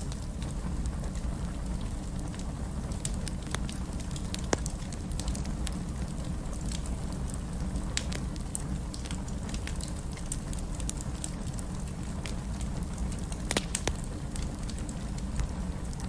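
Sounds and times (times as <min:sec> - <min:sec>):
flames rumbling: 0:00.0 - 0:16.0
wood fire popping and snapping: 0:00.0 - 0:16.0.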